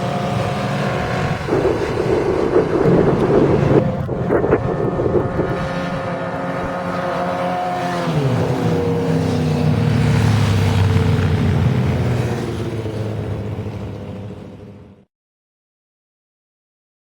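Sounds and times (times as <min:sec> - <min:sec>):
motorcycle engine revving high: 0:00.0 - 0:14.6.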